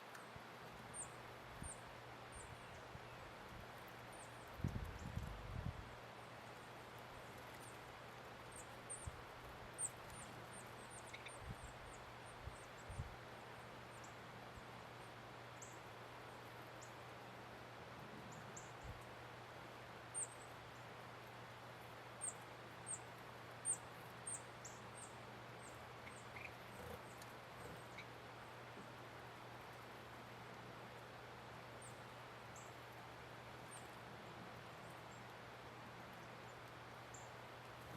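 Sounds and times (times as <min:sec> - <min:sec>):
small birds chip calls: 0:00.0 - 0:17.5, 0:18.2 - 0:37.9.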